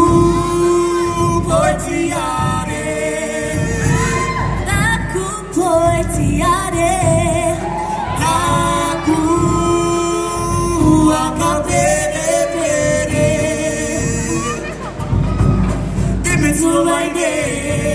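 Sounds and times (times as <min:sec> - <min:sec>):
drums keeping time: 0:00.0 - 0:17.9
group singing: 0:00.0 - 0:17.9.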